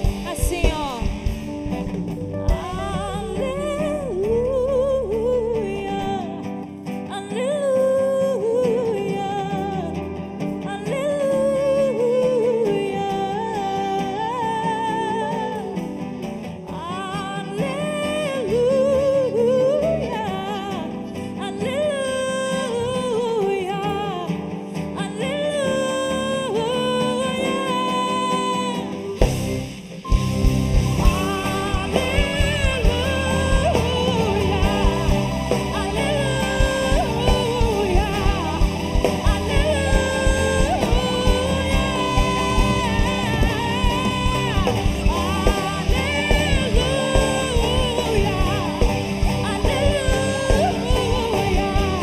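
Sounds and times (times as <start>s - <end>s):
gospel band music: 0.0s - 52.0s
woman singing: 0.0s - 52.0s.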